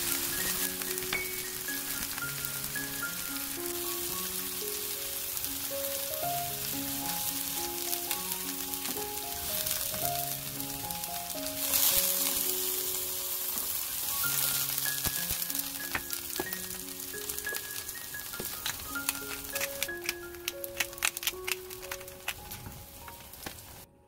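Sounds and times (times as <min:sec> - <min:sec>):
oil sizzling in frying pan: 0:00.0 - 0:23.9
background music: 0:00.0 - 0:24.0.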